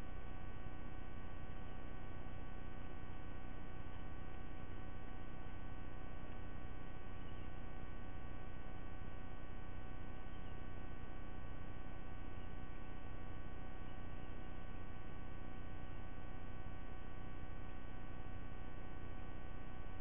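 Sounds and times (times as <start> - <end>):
electrical hum with tones: 0.0 - 20.0.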